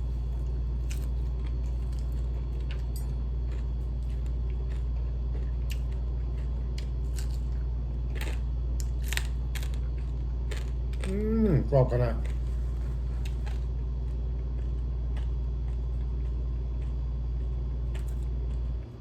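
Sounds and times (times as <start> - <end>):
chewing crispy fried chicken: 0.0 - 19.0
steady low hum: 0.0 - 19.0.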